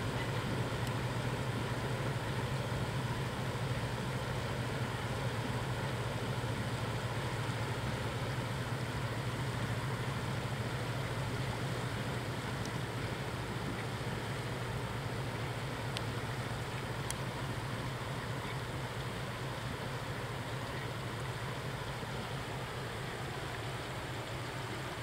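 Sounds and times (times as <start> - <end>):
engine drone: 0.0 - 25.0.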